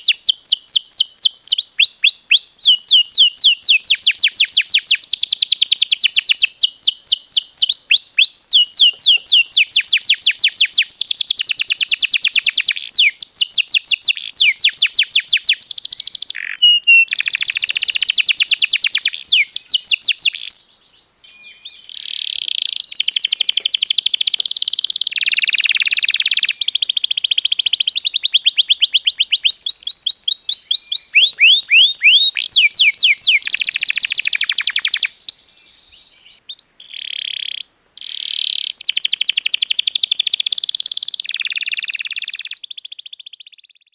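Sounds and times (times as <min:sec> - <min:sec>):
canary singing high trills: 0:00.0 - 0:43.9.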